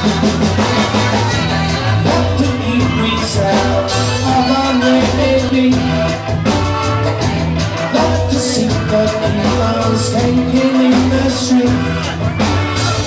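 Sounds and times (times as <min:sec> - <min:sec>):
bass line: 0:00.0 - 0:13.0
drum kit beat: 0:00.0 - 0:13.0
live band music: 0:00.0 - 0:13.0.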